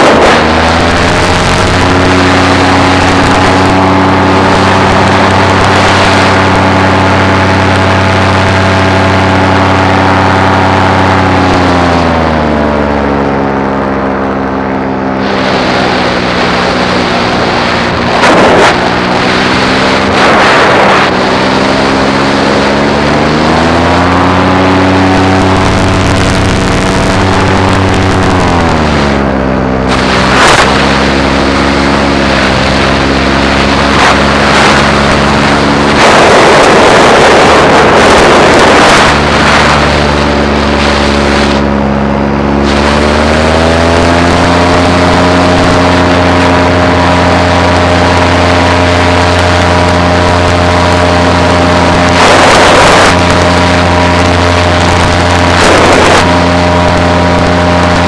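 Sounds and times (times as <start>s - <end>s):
loud rush of noise: 0.0s - 58.0s
paramotor engine running: 0.0s - 58.0s.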